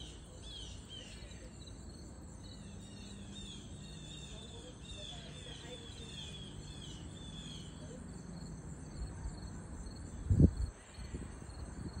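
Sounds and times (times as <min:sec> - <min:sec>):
crickets and insects chorus: 0:00.0 - 0:12.0.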